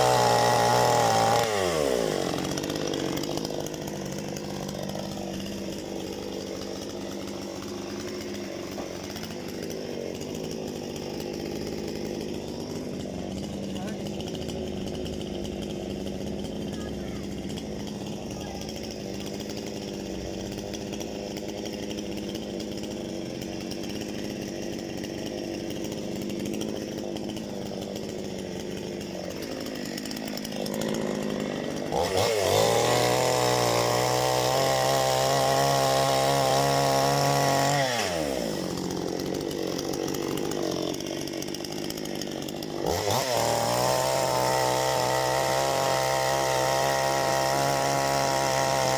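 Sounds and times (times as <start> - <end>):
chainsaw idling and revving: 0.0 - 48.9.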